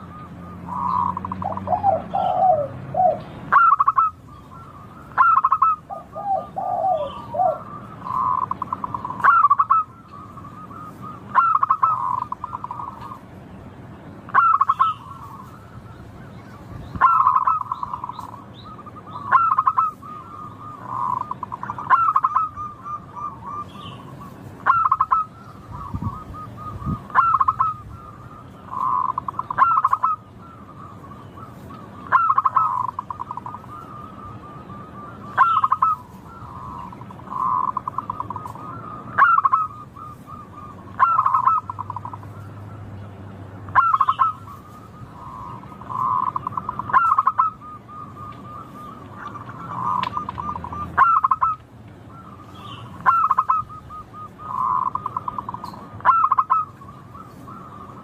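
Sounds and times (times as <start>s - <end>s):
dove cooing trill: 0.0s - 13.4s, 14.1s - 58.0s.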